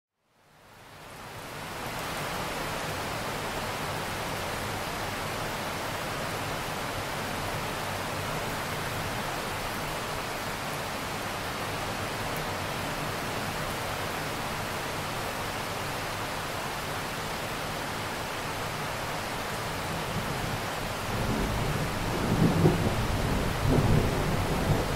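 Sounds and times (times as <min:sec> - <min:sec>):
rain falling on water: 0:00.2 - 0:24.9.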